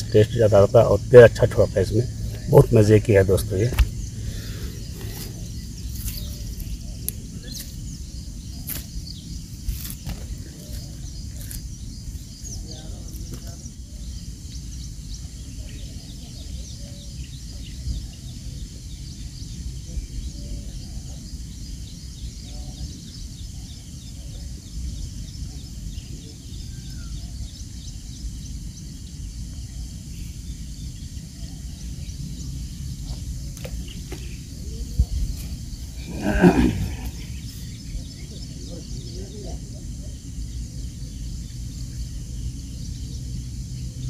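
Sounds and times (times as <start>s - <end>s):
faint bird chirps: 0.0s - 44.0s
wind rumble on microphone: 0.0s - 44.0s.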